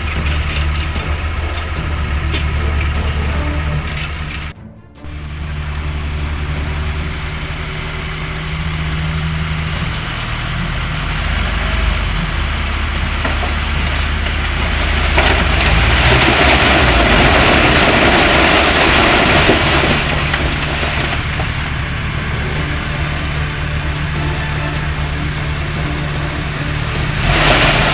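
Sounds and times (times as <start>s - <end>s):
heavy diesel engine running: 0.0s - 27.9s
rushing noise: 0.0s - 27.9s.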